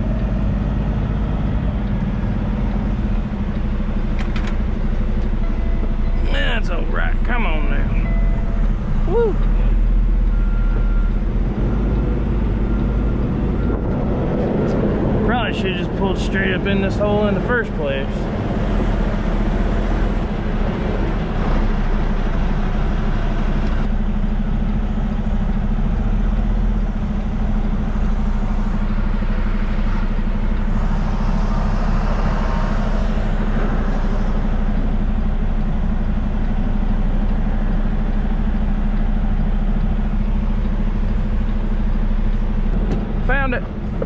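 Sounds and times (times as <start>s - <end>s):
truck diesel engine running: 0.0s - 44.0s.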